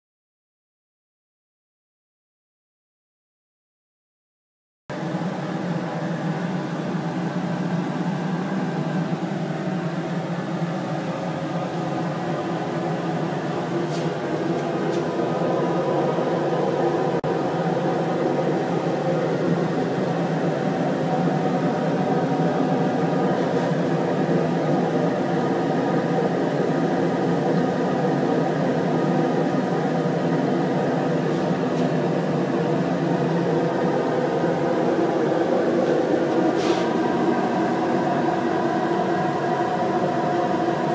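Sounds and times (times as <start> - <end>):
hot-air station blowing air: 4.9 - 40.9.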